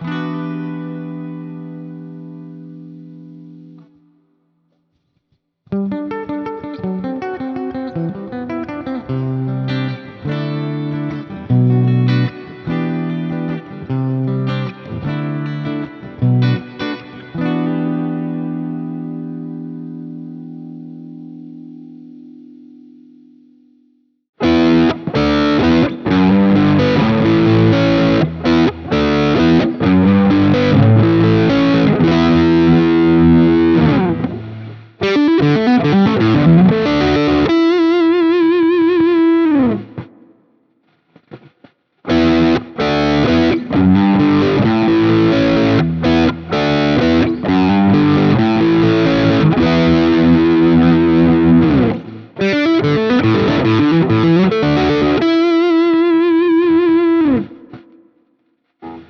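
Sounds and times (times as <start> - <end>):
distorted electric guitar riffs: 0.0 - 4.2, 5.7 - 23.8, 24.4 - 59.0.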